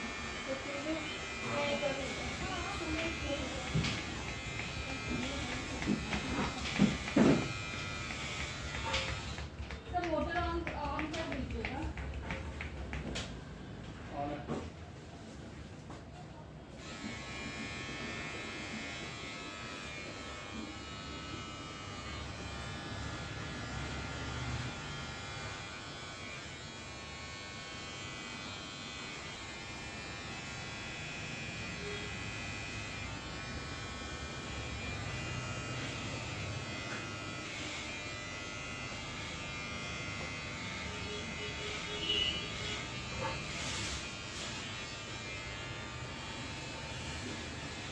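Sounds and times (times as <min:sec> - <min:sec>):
small electric motor buzzing: 0:00.0 - 0:10.3, 0:16.8 - 0:47.9.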